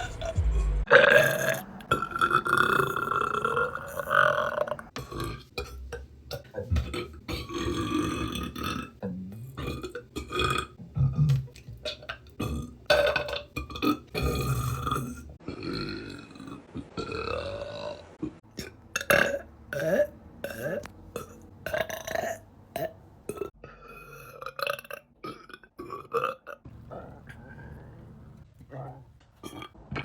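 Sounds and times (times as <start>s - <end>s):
woman belching: 0.9s - 26.7s, 29.4s - 29.8s.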